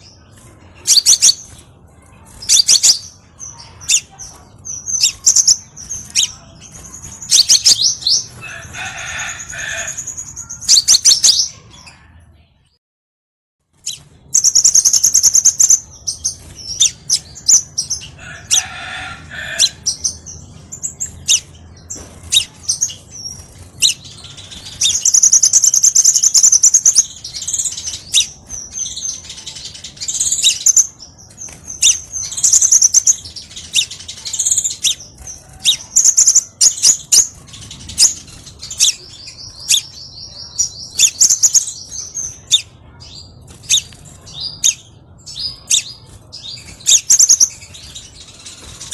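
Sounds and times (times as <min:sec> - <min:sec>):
bird song trills and chips: 0:00.0 - 0:12.7, 0:13.7 - 0:48.9.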